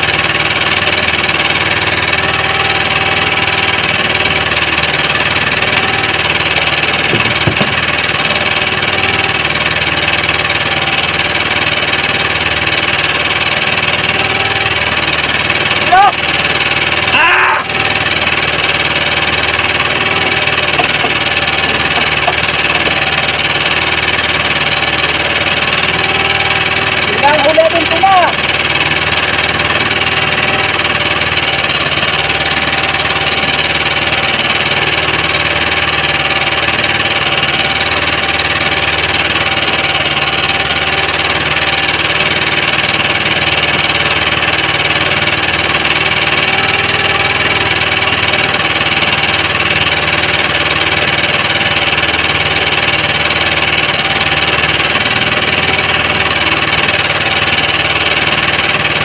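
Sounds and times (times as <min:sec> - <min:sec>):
small boat engine idling: 0:00.0 - 0:59.0.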